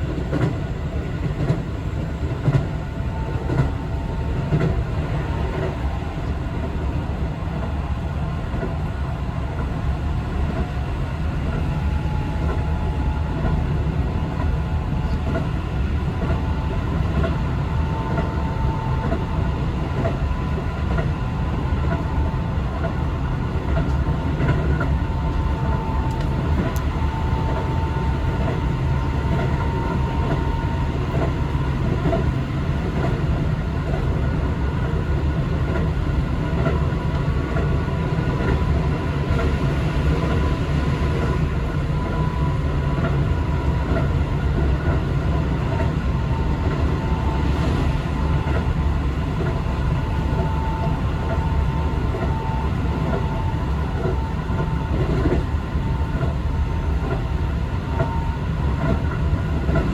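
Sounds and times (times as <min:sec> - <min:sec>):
train wheels rumbling on rail: 0:00.0 - 0:59.9
thin steady whine: 0:02.4 - 0:59.9.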